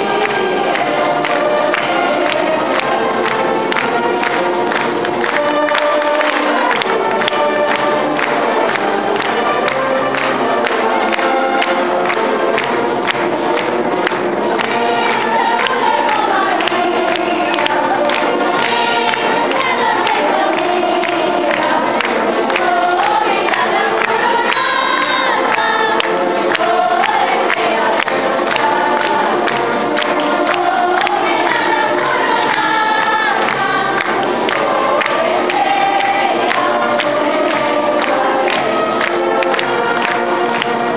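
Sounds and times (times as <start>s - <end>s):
choir singing a hymn: 0.0s - 10.8s, 14.1s - 40.9s
instrumental accompaniment: 0.0s - 40.9s.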